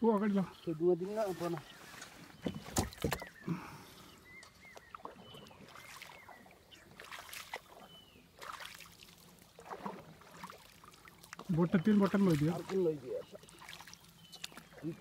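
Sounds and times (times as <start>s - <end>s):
paddle splashing in water: 1.1s - 3.5s, 4.3s - 15.0s.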